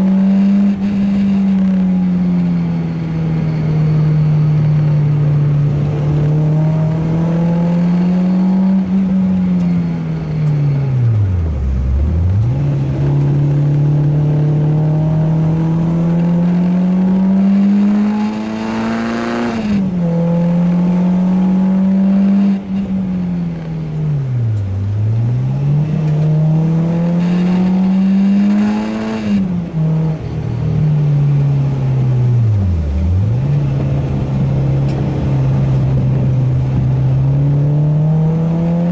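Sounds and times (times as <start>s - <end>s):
car engine revving hard: 0.0s - 2.4s, 3.0s - 23.2s, 24.4s - 30.3s, 31.6s - 38.9s.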